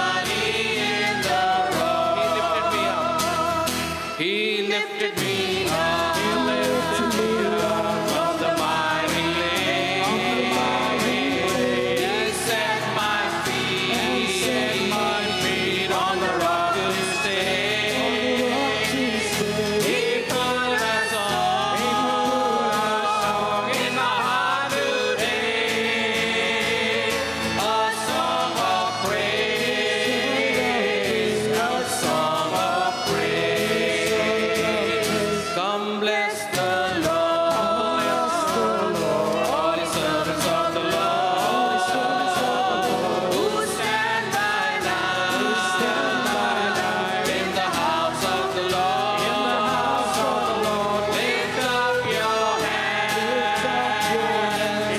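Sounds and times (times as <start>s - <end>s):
guitar: 0.0s - 54.9s
keyboard: 0.0s - 54.9s
voices singing together: 0.0s - 54.9s.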